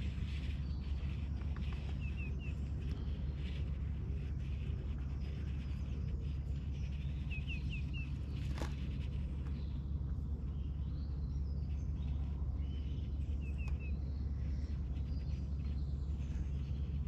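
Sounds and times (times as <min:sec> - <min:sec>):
low rumble: 0:00.0 - 0:17.0
small bird chirping: 0:00.0 - 0:17.0.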